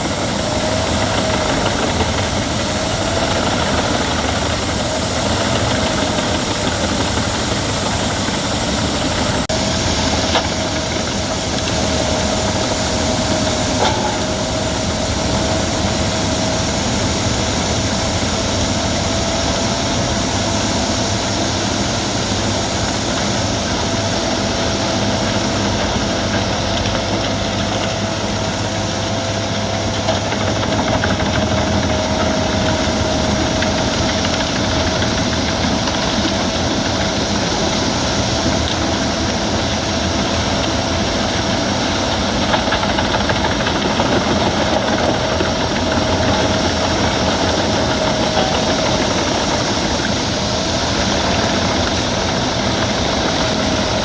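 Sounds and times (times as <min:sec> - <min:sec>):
wood chipper running: 0:00.0 - 0:54.0.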